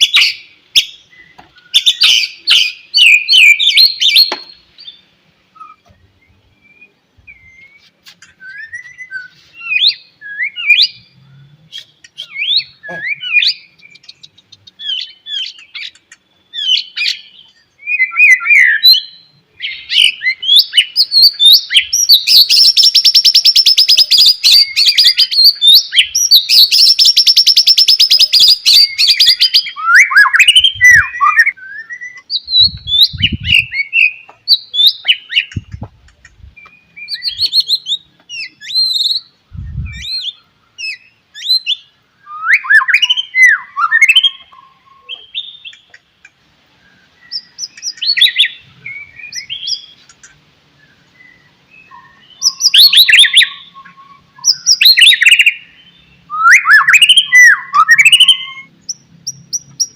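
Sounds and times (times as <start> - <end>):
songbird whistling and chattering: 0.0 - 59.9.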